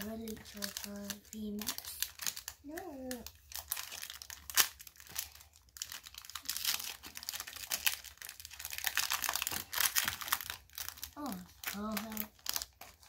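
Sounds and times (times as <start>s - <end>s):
foil pack crinkling as torn open: 0.0s - 13.0s.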